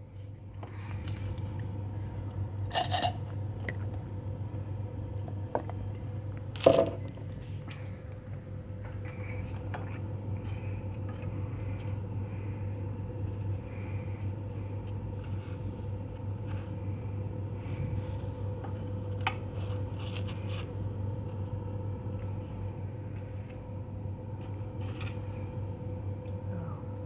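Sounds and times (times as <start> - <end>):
kitchen appliance humming: 0.0 - 27.0.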